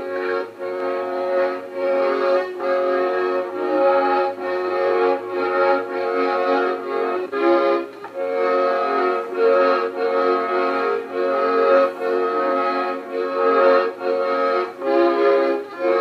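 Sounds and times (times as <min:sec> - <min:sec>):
accordion playing chords: 0:00.0 - 0:16.0.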